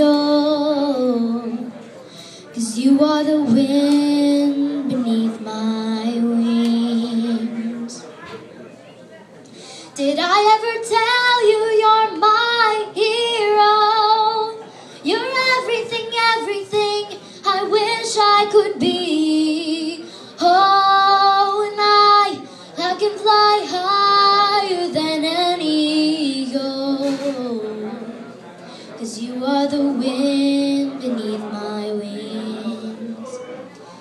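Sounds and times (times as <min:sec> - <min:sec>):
girl singing a slow ballad: 0:00.0 - 0:08.0, 0:10.0 - 0:28.1, 0:29.0 - 0:33.3.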